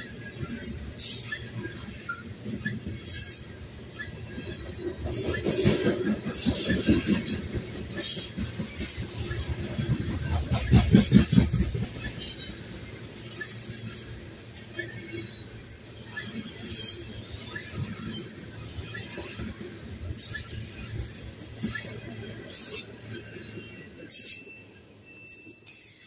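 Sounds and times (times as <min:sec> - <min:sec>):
train wheels clacking on rails: 0:00.0 - 0:24.6.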